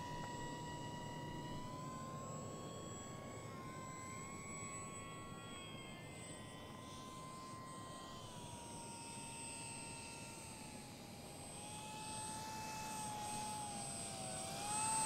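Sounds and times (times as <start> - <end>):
model plane electric motor whining: 0.0 - 15.0.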